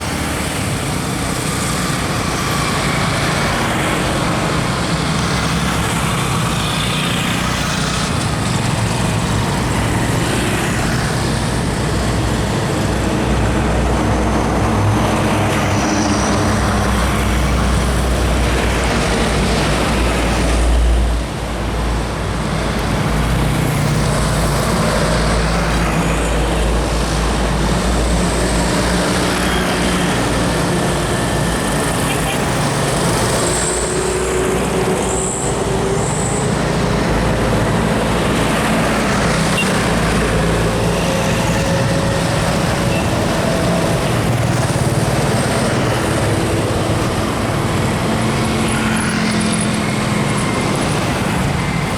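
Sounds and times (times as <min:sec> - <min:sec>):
diesel truck and bus engines: 0:00.0 - 0:51.9
road and traffic noise: 0:00.0 - 0:51.9.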